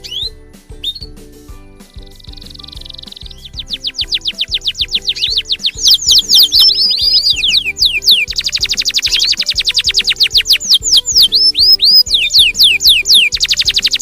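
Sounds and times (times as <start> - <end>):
canary singing: 0.0 - 14.0
children's music with a beat: 0.0 - 14.0.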